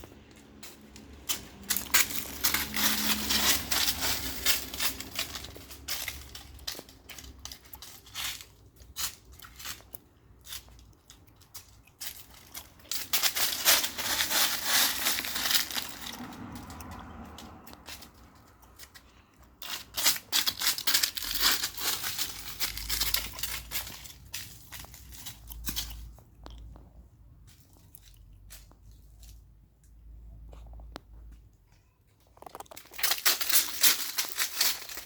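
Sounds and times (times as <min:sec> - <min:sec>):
crunching and crackling: 0:00.0 - 0:35.0.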